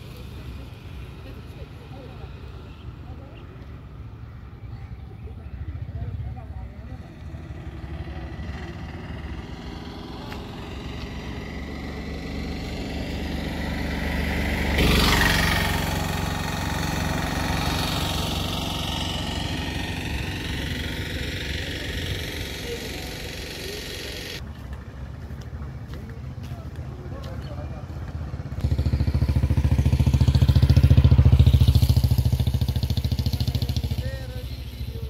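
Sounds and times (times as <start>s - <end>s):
auto-rickshaw engine passing: 0.0s - 35.0s.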